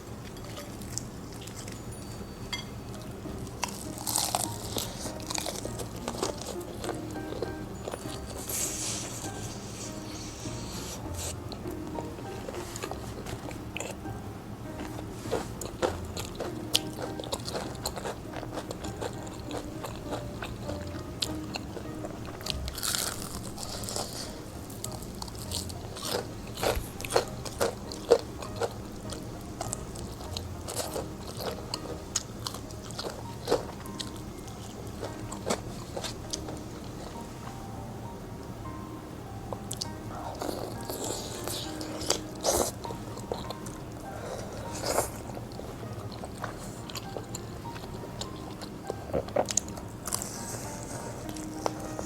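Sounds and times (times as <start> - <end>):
crunching fried chicken: 3.3 - 14.2, 14.8 - 37.5, 39.7 - 52.0.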